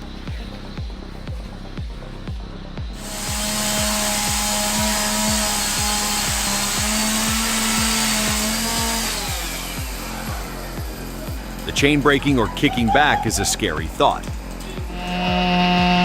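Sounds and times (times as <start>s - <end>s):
background music with beat: 0.0s - 16.0s
chainsaw running: 3.0s - 16.0s.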